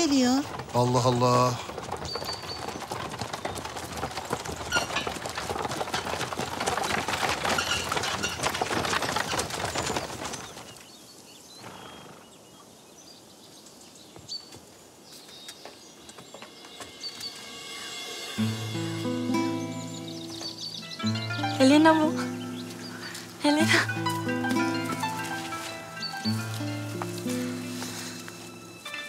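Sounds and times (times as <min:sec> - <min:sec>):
birds chirping: 0:00.0 - 0:29.0
hooves and carriage wheels clattering: 0:00.0 - 0:29.0.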